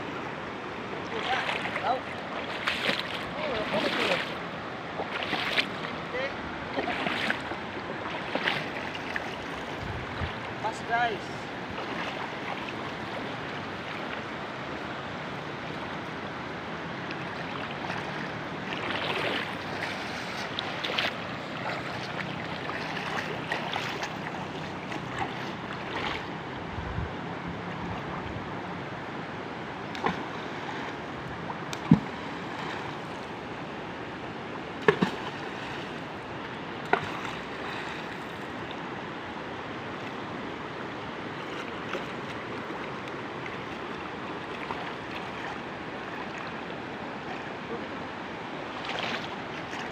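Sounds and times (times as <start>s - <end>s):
river water rushing: 0.0s - 49.9s
water splashing: 0.8s - 14.3s, 16.6s - 26.5s, 29.7s - 33.6s, 34.6s - 38.9s, 40.9s - 49.9s.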